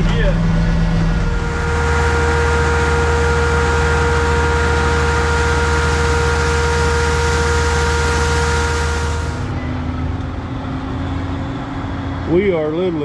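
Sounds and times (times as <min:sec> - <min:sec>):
farm vehicle engine droning: 0:00.0 - 0:13.0.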